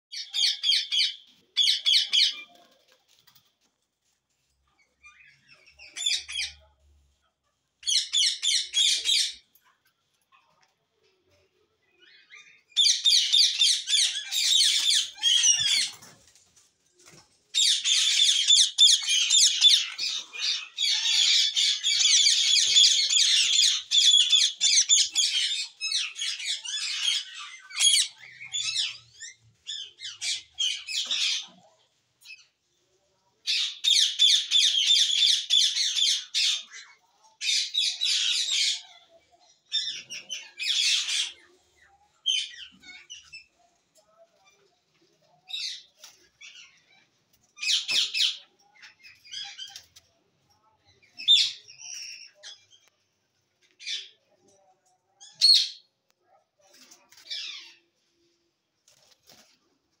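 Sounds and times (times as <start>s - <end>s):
birds chattering and squawking: 0.1s - 60.0s.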